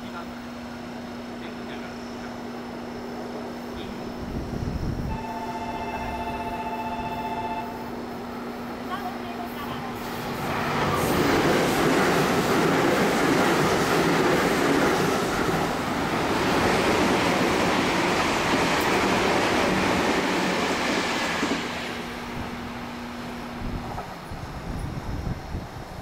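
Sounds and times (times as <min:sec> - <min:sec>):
electric train passing: 0:00.0 - 0:26.0
low hum of standing train: 0:00.0 - 0:26.0.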